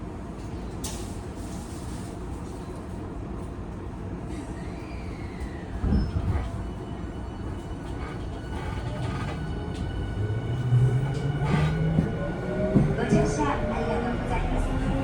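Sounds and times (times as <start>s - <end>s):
train running rumble: 0.1s - 15.0s.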